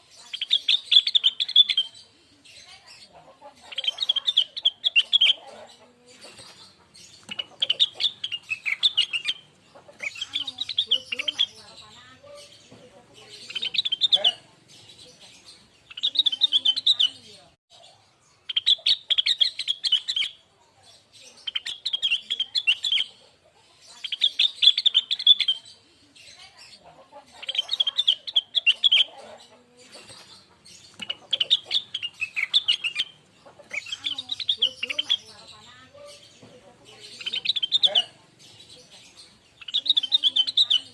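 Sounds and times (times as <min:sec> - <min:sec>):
bird singing warbling phrases: 0:00.0 - 0:40.9.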